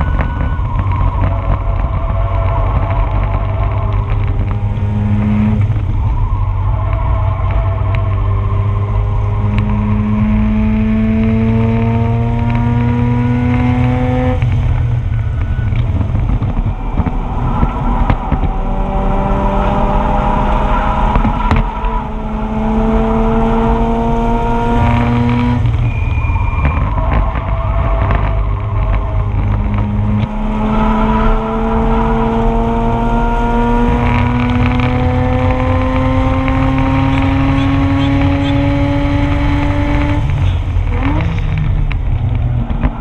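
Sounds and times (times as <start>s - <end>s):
rotary engine accelerating hard: 0.0s - 43.0s.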